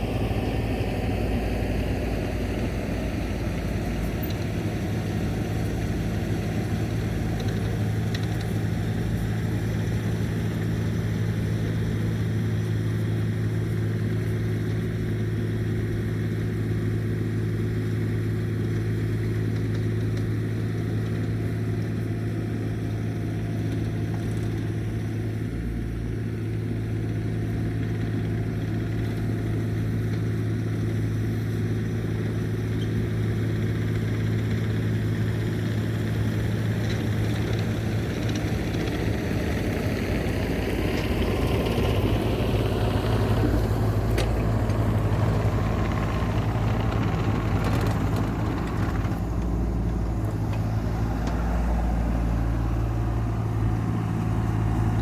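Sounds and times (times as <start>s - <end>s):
heavy machine engine running: 0.0s - 55.0s.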